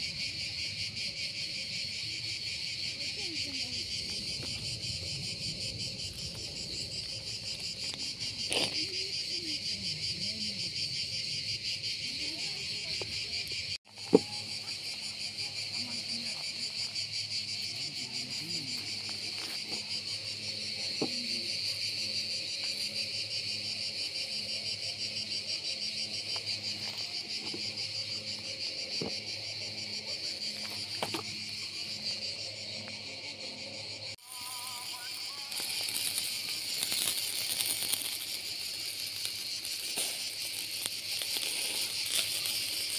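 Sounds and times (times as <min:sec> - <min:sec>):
insects chirring: 0:00.0 - 0:42.9.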